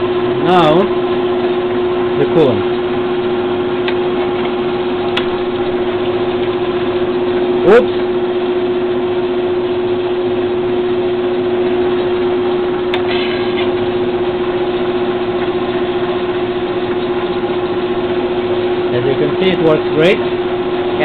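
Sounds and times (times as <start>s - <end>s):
coolant noise: 0.0s - 21.0s.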